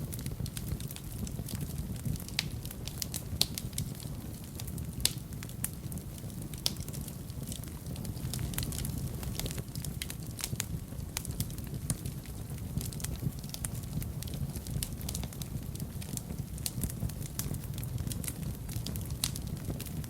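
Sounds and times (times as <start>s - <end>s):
fire pops: 0.0s - 20.0s
low rumble of flame: 0.0s - 20.0s
wood fire crackling: 0.0s - 20.0s.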